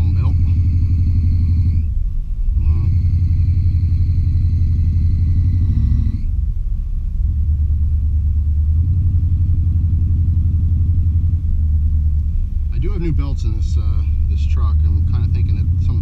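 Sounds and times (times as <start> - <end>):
pickup engine running: 0.0 - 16.0.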